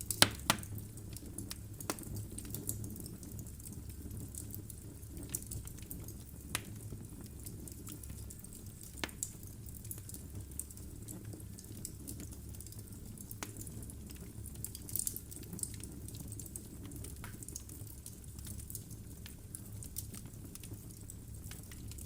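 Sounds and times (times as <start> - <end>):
fire crackles and pops: 0.0 - 22.0
fire flame rumble: 0.0 - 22.0.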